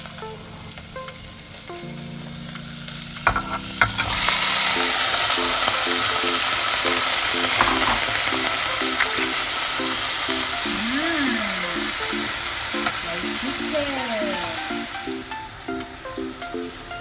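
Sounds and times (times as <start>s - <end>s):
faint melody of repeated notes: 0.0s - 17.0s
food sizzling in frying pan: 0.0s - 17.0s.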